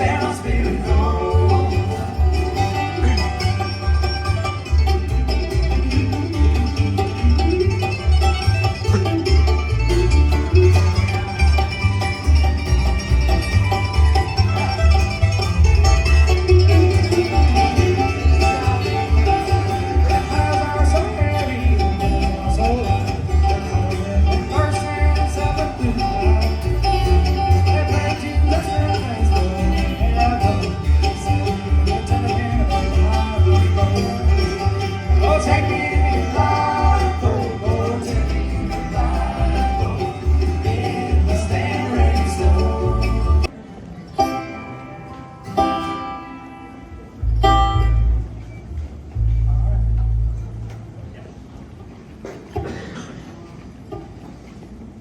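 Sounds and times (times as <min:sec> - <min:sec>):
banjo picking: 0:00.0 - 0:50.9.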